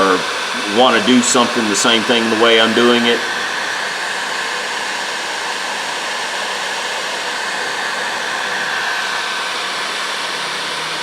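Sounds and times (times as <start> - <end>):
heat gun blowing with whine: 0.0 - 11.0.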